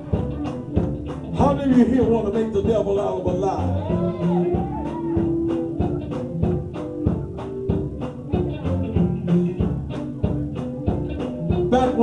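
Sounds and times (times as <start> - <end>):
drum kit beat: 0.0 - 12.0
gospel band playing: 0.0 - 12.0.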